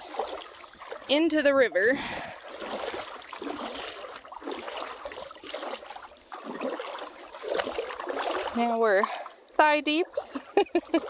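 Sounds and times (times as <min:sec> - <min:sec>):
water sloshing around wading legs: 0:00.0 - 0:11.0.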